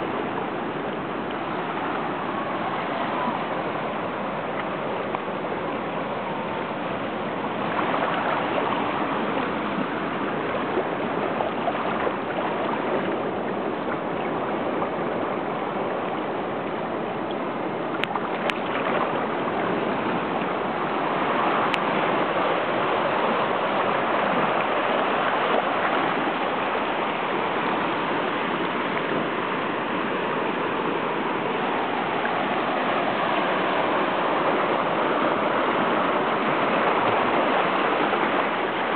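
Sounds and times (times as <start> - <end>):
seawater washing over rocks: 0.0 - 38.9.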